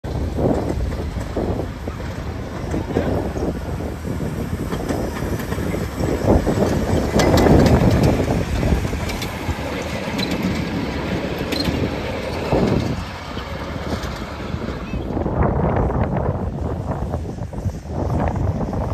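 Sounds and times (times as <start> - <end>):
miniature steam train passing: 0.0 - 18.9
wheels clicking on track: 0.1 - 18.9.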